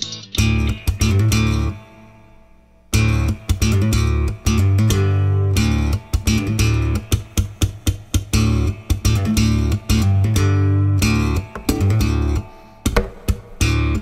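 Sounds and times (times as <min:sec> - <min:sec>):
guitar music with bass and beats: 0:00.0 - 0:14.0.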